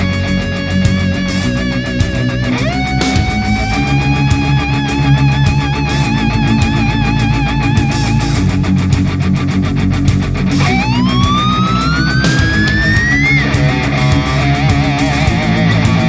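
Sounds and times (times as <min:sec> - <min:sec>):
distorted electric guitar lead: 0:00.0 - 0:16.0
heavy metal music: 0:00.0 - 0:16.0.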